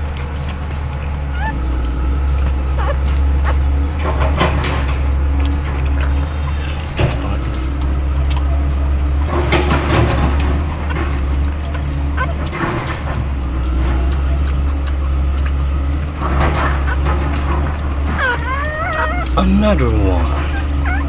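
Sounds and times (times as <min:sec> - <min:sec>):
puppies crying: 0:00.2 - 0:19.4, 0:20.2 - 0:21.0.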